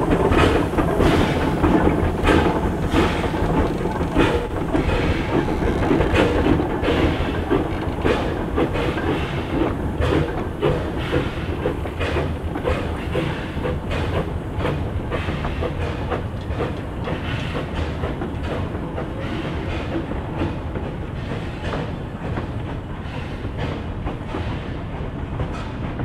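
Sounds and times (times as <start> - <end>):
steam train chuffing: 0.0 - 26.0
train running noise: 0.0 - 26.0.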